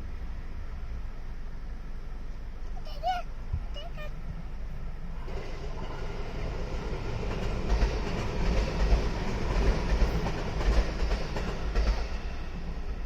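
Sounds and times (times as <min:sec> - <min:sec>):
electric train passing: 0:00.0 - 0:02.7, 0:04.1 - 0:13.0.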